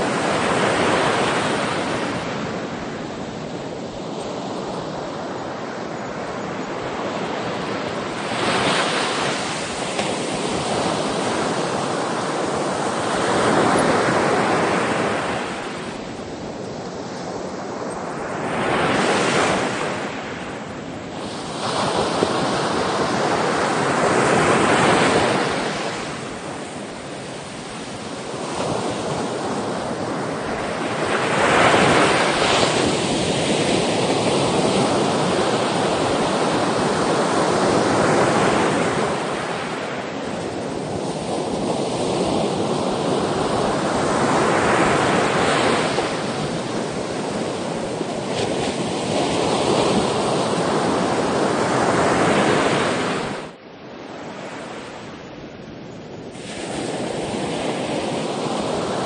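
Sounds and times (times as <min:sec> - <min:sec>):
sea waves breaking on shore: 0:00.0 - 0:55.6, 0:56.2 - 0:59.0.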